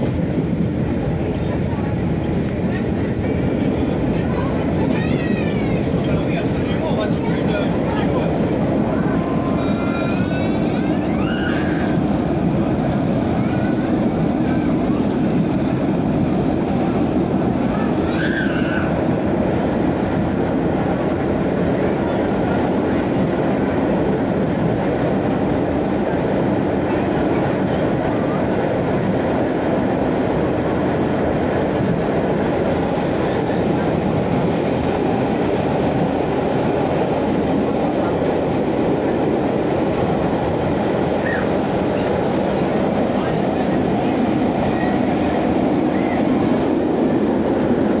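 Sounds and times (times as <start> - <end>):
subway train rumbling: 0.0 - 48.0.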